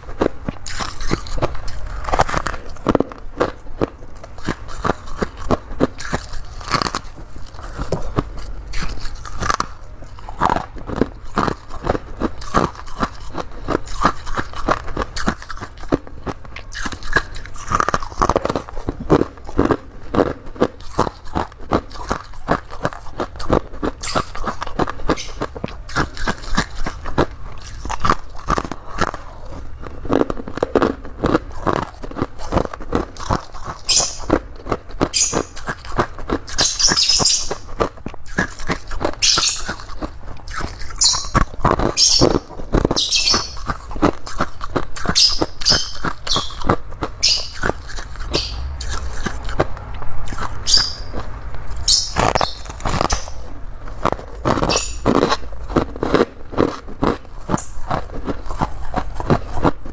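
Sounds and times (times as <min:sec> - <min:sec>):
frost being chewed crunchily: 0:00.0 - 0:59.9.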